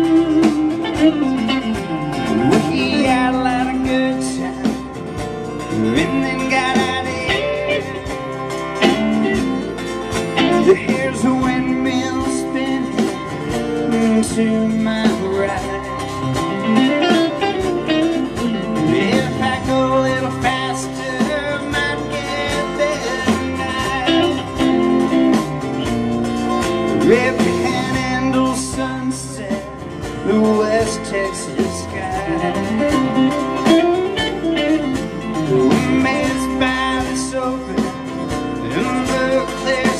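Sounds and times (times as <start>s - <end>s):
live country band playing: 0.0s - 39.9s.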